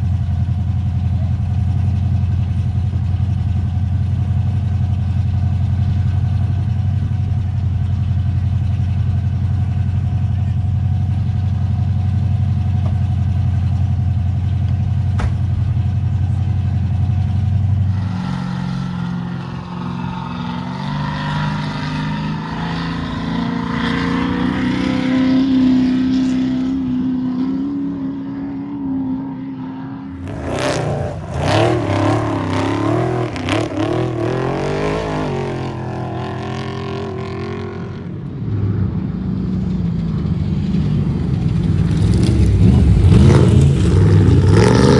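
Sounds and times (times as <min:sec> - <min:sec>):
steady low engine note: 0:00.0 - 0:24.8, 0:30.0 - 0:44.9
truck engines revving: 0:00.0 - 0:44.9.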